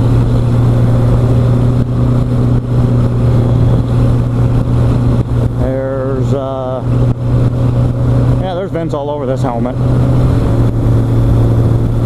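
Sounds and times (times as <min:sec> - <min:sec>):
wind noise: 0:00.0 - 0:08.6, 0:09.3 - 0:12.0
motorcycle engine drone: 0:00.0 - 0:12.0.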